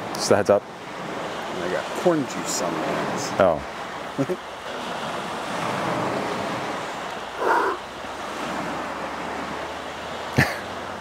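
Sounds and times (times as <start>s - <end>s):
lake surf: 0.0s - 11.0s
wind: 0.0s - 11.0s.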